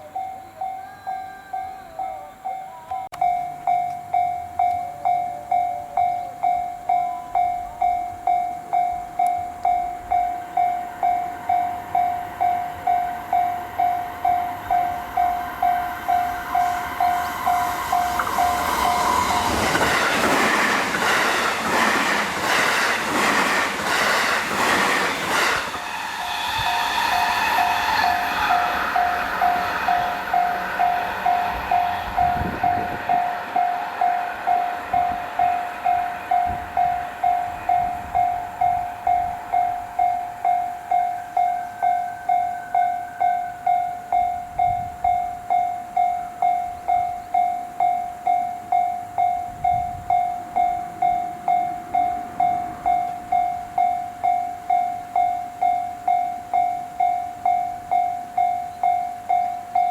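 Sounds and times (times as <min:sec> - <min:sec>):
level crossing warning bell: 0:00.0 - 0:59.9
train passing: 0:00.0 - 0:59.9.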